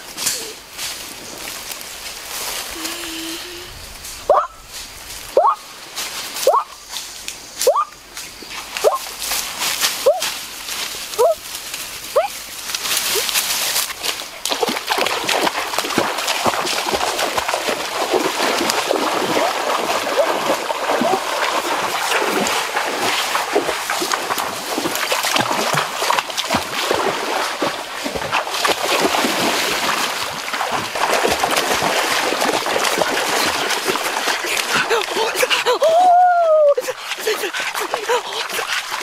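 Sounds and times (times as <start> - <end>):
splashing through shallow water: 0.0 - 39.0.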